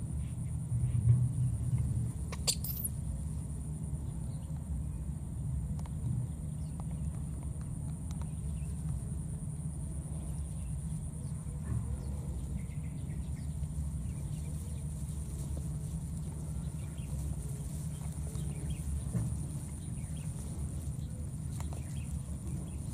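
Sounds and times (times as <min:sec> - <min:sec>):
steady low rumble: 0:00.0 - 0:22.9.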